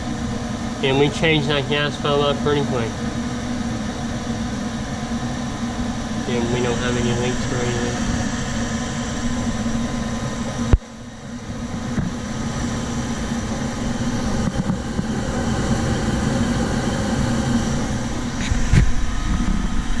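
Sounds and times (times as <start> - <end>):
gas furnace humming: 0.0 - 20.0.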